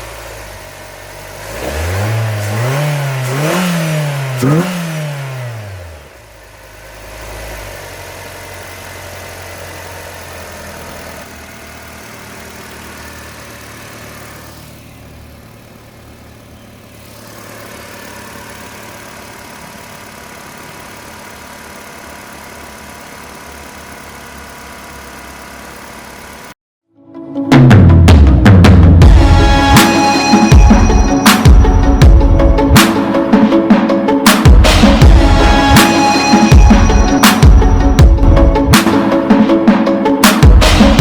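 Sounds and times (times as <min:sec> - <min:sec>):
car engine idling: 0:00.0 - 0:26.6, 0:28.9 - 0:41.0.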